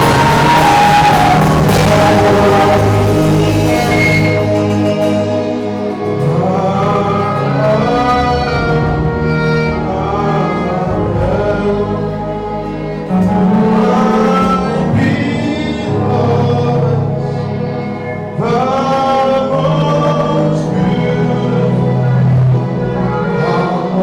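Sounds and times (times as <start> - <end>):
gospel singing with instruments: 0.0 - 24.0
low bass line: 0.0 - 24.0.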